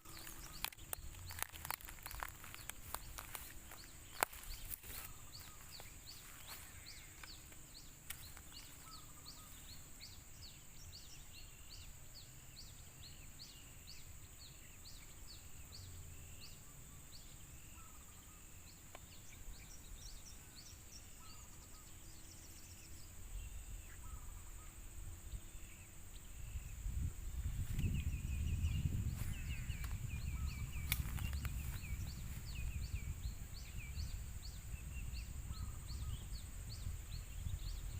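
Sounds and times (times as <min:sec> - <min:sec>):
high insect drone: 0:00.0 - 0:37.9.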